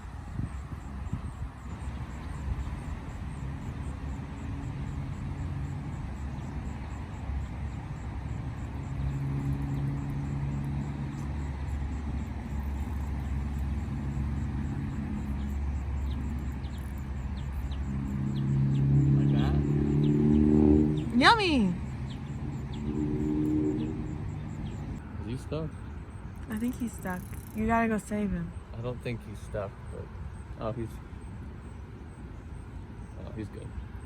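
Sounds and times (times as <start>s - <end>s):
engine running with low hum: 0.0s - 34.0s.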